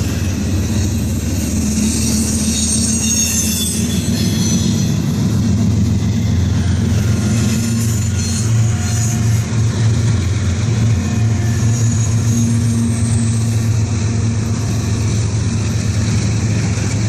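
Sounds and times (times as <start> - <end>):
high wheel squeal: 0.0 - 15.2
freight train wheels rumbling: 0.0 - 17.0.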